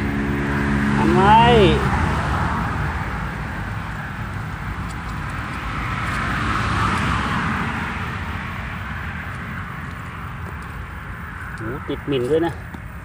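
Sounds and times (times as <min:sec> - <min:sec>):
road vehicle passing: 0:00.0 - 0:13.0.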